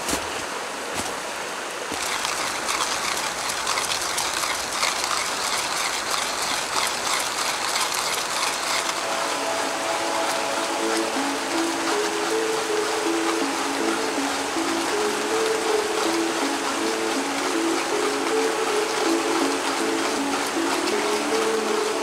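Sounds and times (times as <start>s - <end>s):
hand coffee mill grinding beans: 1.9s - 9.4s, 10.0s - 22.0s.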